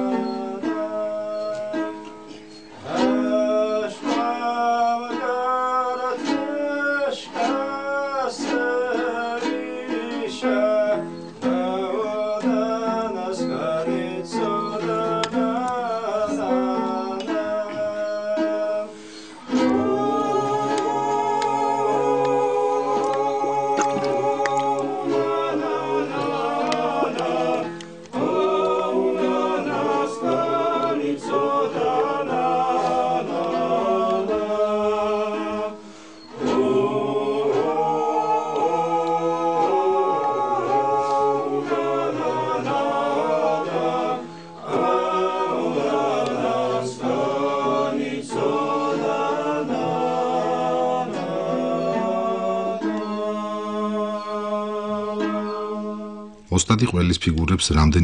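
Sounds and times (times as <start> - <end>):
unaccompanied choir singing: 0.0 - 56.5.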